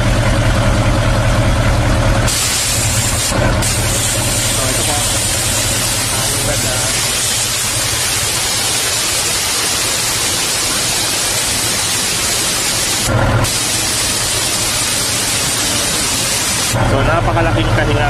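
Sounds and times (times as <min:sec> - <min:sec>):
compressed air hissing from valve: 0:02.3 - 0:16.8.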